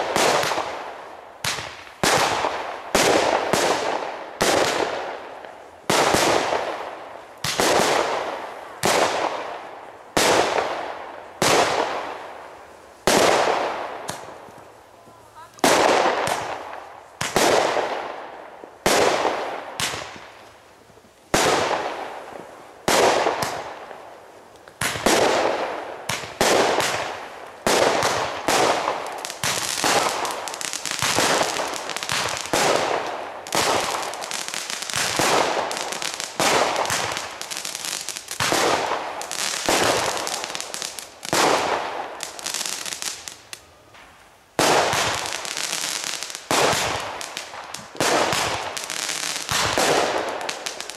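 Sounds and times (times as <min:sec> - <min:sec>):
fireworks banging: 0:00.0 - 0:20.6, 0:21.3 - 0:50.9.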